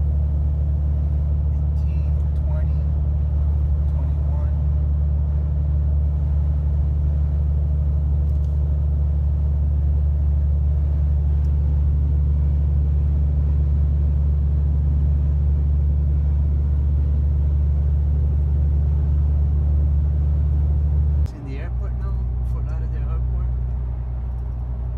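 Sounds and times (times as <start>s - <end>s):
pickup engine and road drone: 0.0s - 24.9s.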